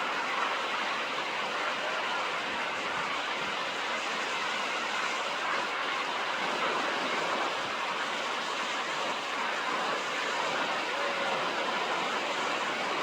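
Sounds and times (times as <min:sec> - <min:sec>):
waterfall roaring: 0:00.1 - 0:13.0.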